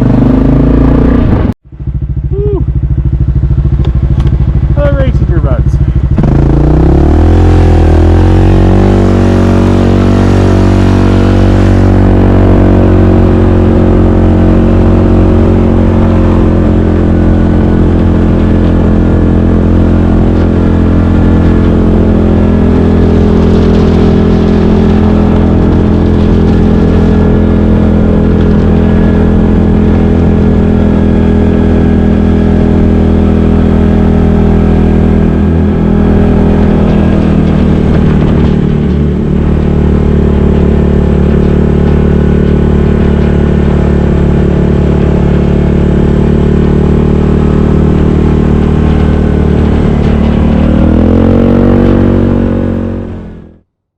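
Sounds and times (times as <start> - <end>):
atv engine running: 0.0 - 53.7.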